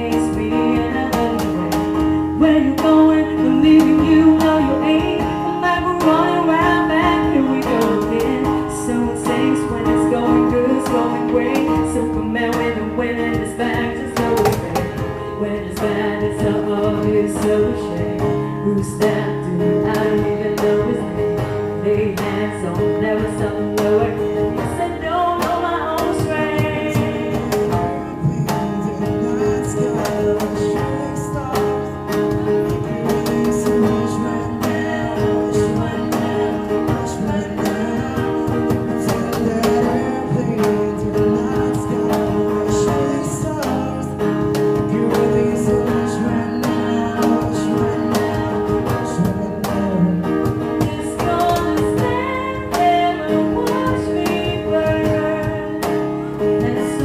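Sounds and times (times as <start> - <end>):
acoustic guitar strumming: 0.0 - 57.0
voices singing: 0.0 - 57.0.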